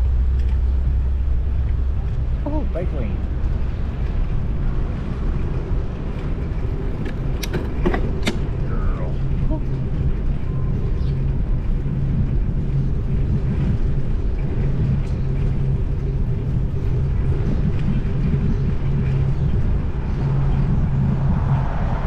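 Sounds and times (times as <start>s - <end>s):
low rumble of road traffic: 0.0s - 22.0s
motor vehicle engine hum: 0.0s - 22.0s.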